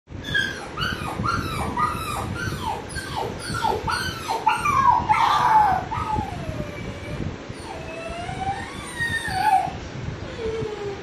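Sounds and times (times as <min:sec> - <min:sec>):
puppy whimpering on tv: 0:00.2 - 0:11.0.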